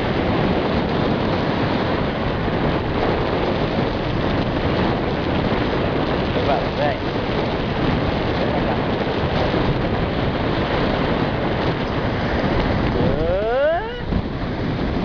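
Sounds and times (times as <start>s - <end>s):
surf washing on beach: 0.0s - 15.0s
wind buffeting microphone: 0.0s - 15.0s.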